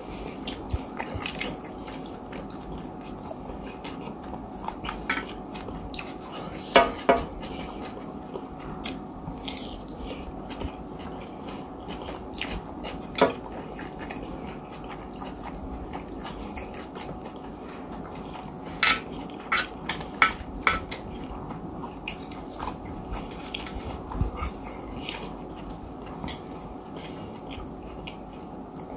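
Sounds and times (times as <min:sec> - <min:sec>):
person chewing: 0:00.1 - 0:28.9.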